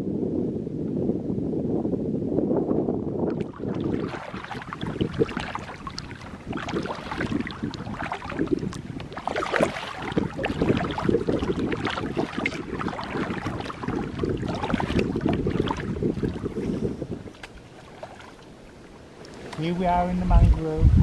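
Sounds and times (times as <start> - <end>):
wind buffeting microphone: 0.0 - 21.0
water splashing against kayak hull: 3.2 - 20.6.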